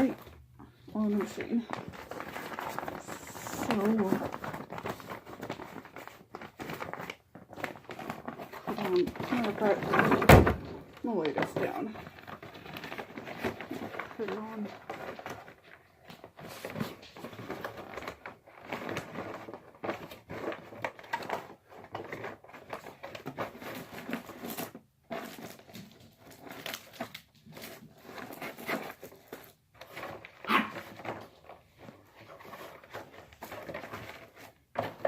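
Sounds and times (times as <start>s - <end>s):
paper bag rustling: 0.0s - 35.0s
plastic parts clicking and knocking: 0.0s - 35.0s.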